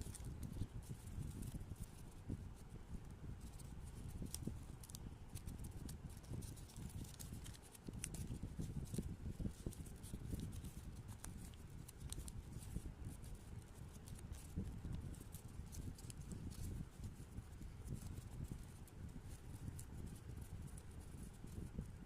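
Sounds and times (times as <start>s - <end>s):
paper rustling and folding: 0.0s - 2.7s, 3.3s - 21.6s.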